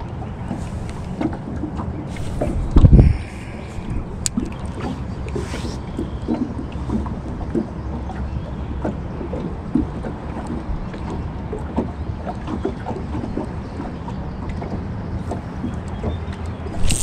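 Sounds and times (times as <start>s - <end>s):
water lapping against boat: 0.0s - 16.8s
wind rumble on microphone: 0.0s - 17.0s.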